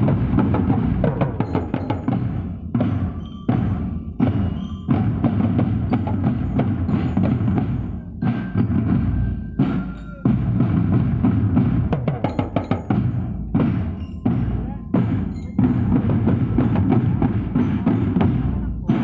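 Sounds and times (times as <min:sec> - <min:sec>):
marching drums playing: 0:00.0 - 0:19.0.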